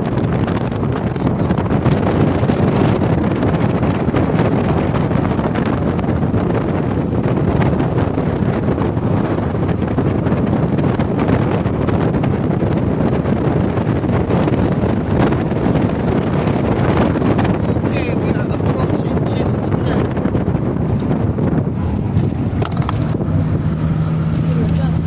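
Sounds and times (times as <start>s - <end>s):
vehicle road noise: 0.0s - 25.0s
wind buffeting microphone: 0.0s - 25.0s.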